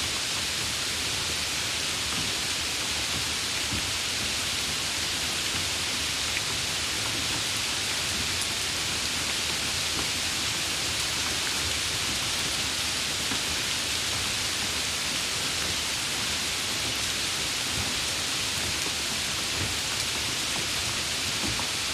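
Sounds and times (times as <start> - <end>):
rain hissing: 0.1 - 21.9.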